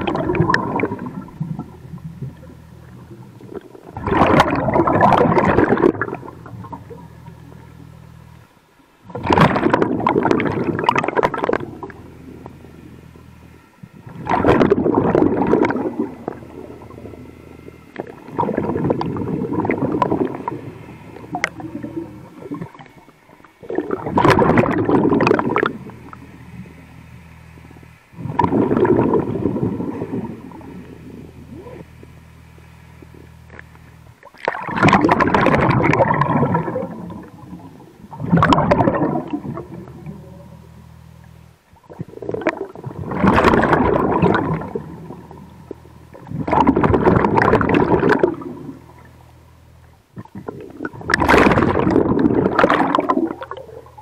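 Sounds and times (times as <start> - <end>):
steady low hum: 0.0 - 54.0
underwater air bubbles gurgling: 0.0 - 54.0.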